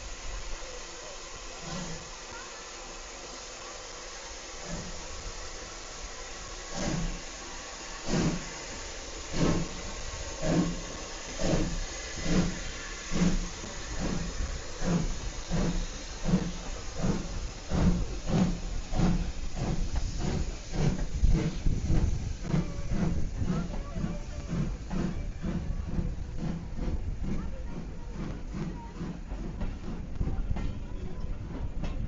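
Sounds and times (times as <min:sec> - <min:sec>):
steam hissing: 0:00.0 - 0:32.0
steam locomotive exhaust chuffs: 0:00.0 - 0:32.0.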